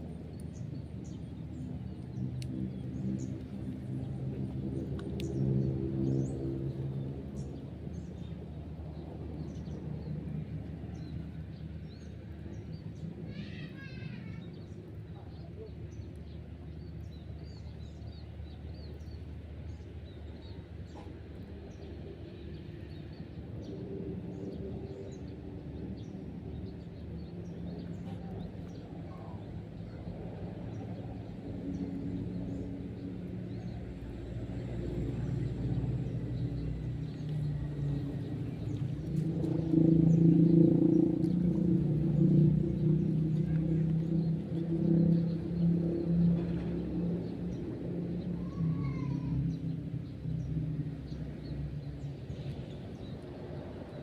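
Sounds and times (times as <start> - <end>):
loud low hum: 0.0 - 54.0
small birds chirping: 0.0 - 54.0
steady low rumble: 0.0 - 54.0.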